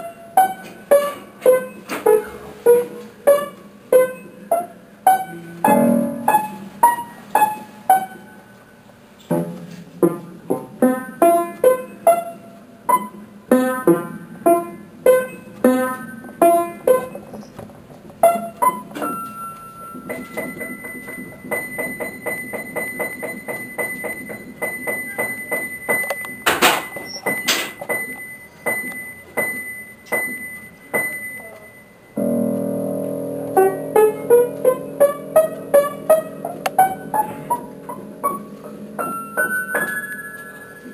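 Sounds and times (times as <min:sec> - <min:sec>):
keyboard melody: 0:00.0 - 0:08.9, 0:10.8 - 0:17.5, 0:18.2 - 0:40.9.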